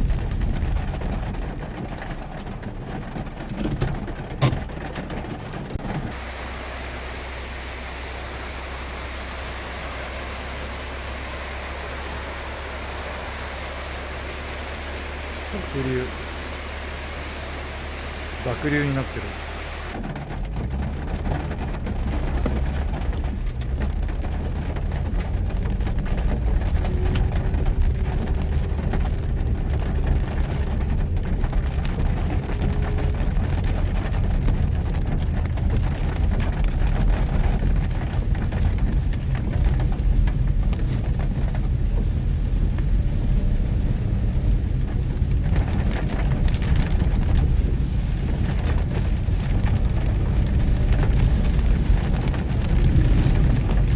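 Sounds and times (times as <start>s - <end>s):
car engine and tyre rumble: 0.0s - 53.9s
rain hissing and pattering on car: 0.0s - 53.9s.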